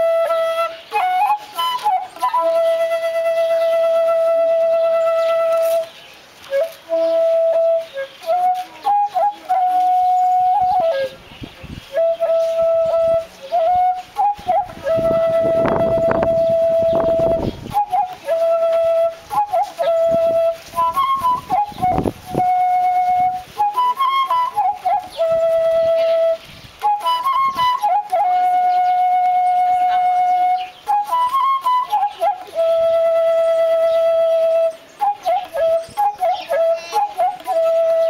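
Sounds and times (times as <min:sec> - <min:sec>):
solo flute melody: 0:00.0 - 0:38.0.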